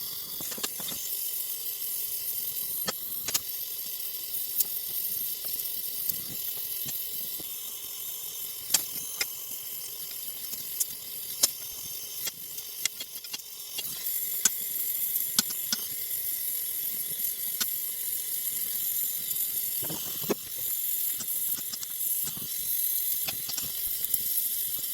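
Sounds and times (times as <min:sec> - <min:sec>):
gas torch flame hissing: 0:00.0 - 0:24.9
sharp crackles and ticks: 0:00.0 - 0:24.9.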